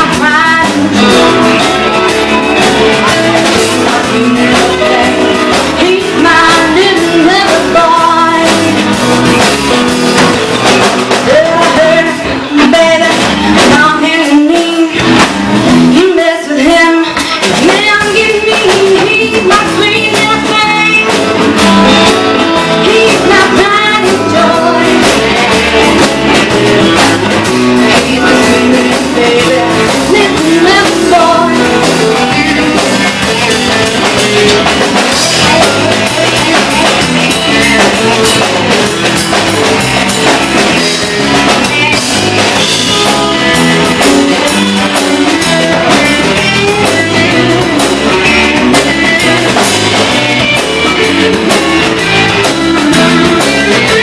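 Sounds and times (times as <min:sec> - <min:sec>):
rock music with drums and guitar: 0:00.0 - 0:54.0.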